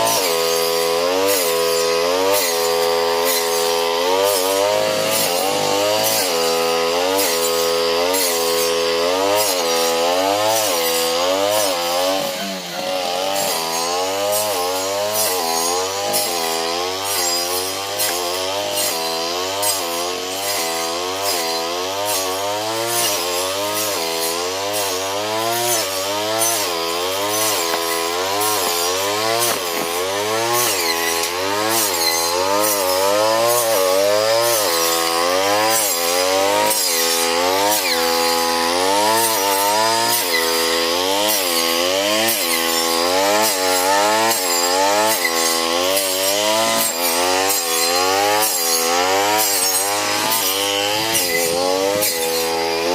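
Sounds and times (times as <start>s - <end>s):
brush cutter engine cutting stalks: 0.0s - 52.9s.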